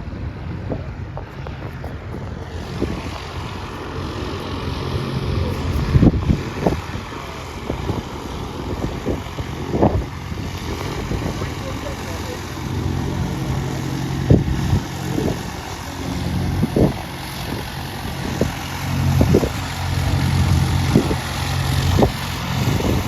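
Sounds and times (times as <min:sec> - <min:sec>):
steady low rumble: 0:00.0 - 0:23.0
wind buffeting microphone: 0:00.0 - 0:23.0.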